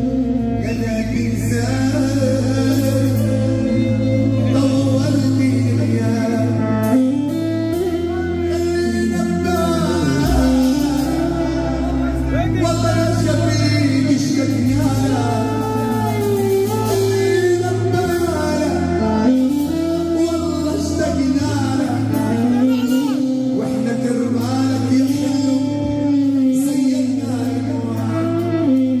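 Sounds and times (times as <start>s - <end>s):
live band accompaniment: 0.0s - 29.0s
man singing into a microphone: 0.0s - 29.0s.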